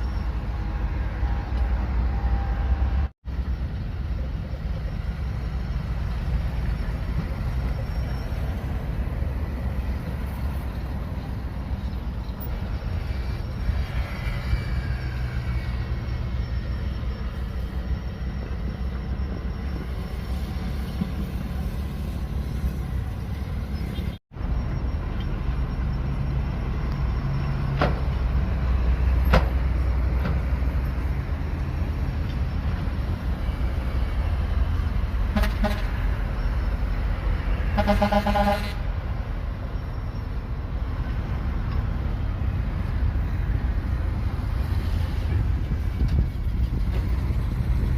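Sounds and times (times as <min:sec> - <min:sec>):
bulldozer engine rumbling: 0:00.0 - 0:47.9.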